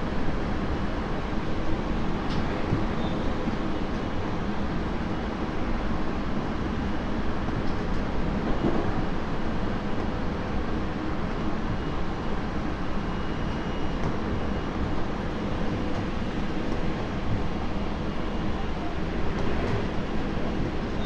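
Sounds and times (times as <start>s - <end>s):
train wheels rumbling on rail: 0.1s - 21.0s.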